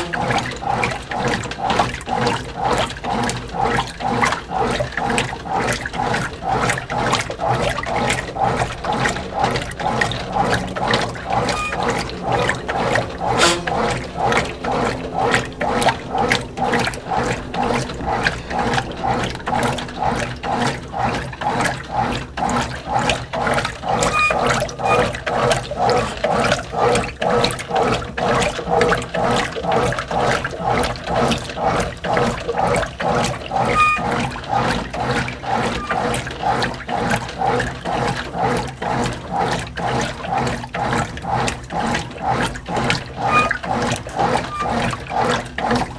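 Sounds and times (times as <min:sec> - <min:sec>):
washing machine agitating: 0:00.0 - 0:45.9.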